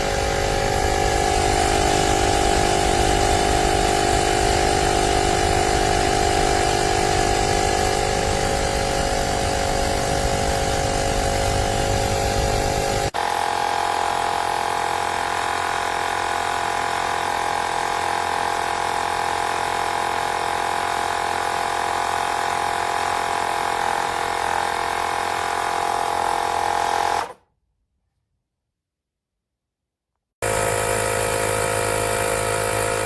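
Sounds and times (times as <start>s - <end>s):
electric compressor whining: 0.0s - 27.4s, 30.4s - 33.0s.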